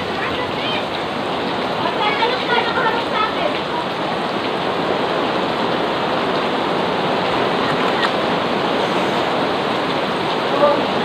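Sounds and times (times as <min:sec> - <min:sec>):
heavy rain on a pool: 0:00.0 - 0:11.0.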